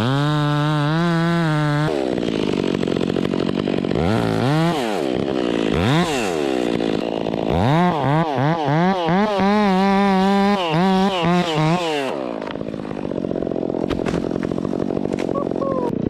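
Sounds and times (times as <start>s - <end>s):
chainsaw cutting and revving: 0.0s - 16.0s.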